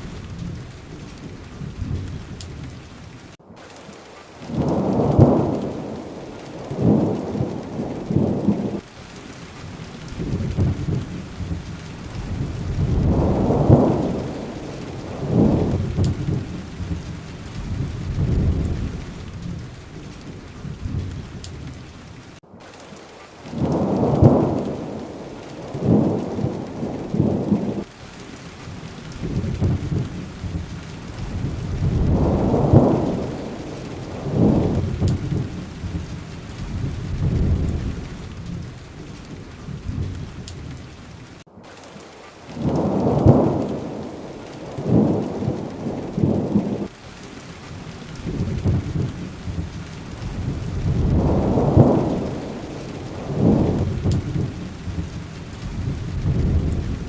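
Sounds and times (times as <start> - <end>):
thunder rumbling: 0.0 - 22.7, 23.4 - 57.0
heavy rain: 0.0 - 57.0.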